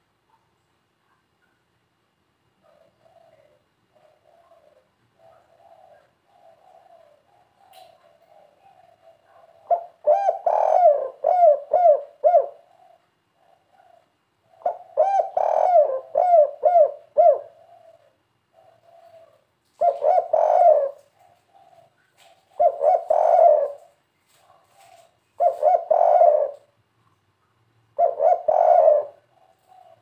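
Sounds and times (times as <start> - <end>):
dove cooing: 2.6 - 26.8, 27.9 - 30.0.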